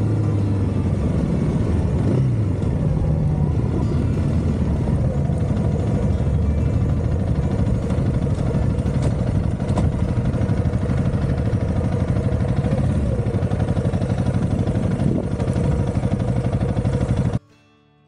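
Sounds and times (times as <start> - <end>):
motorcycle engine running at low revs: 0.0 - 17.4.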